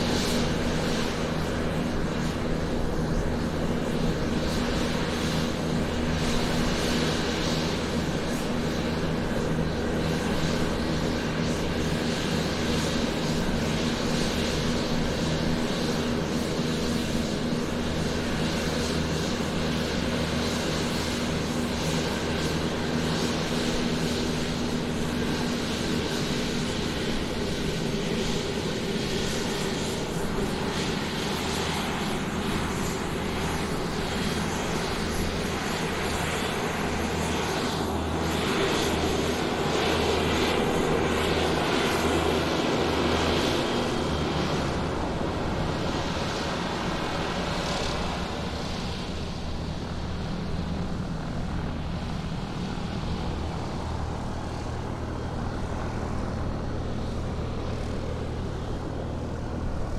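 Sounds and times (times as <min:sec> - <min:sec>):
airplane engine droning: 0:00.0 - 0:59.9.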